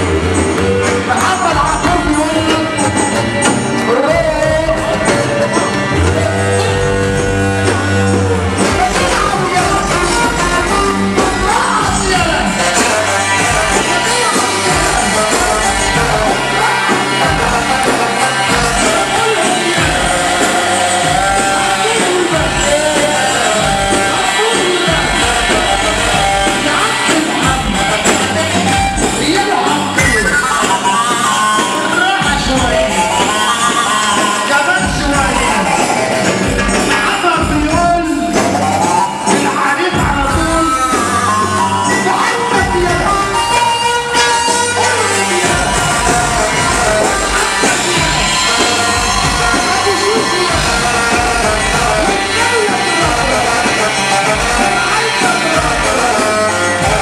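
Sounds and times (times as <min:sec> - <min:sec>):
loud dance music: 0:00.0 - 0:57.0
person singing: 0:00.0 - 0:57.0
steady bass line: 0:00.0 - 0:57.0.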